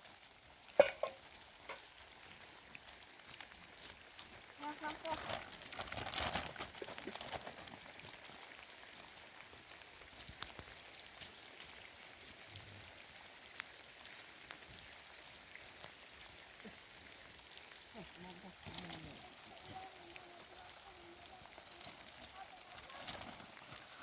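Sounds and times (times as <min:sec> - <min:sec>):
rain hissing: 0:00.0 - 0:24.0
raindrops ticking on surfaces: 0:00.0 - 0:24.0.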